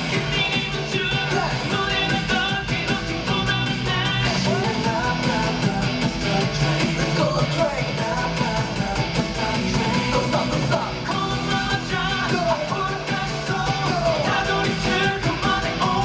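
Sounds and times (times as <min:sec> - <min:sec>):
live band playing: 0:00.0 - 0:16.0
man singing into a microphone: 0:00.0 - 0:16.0.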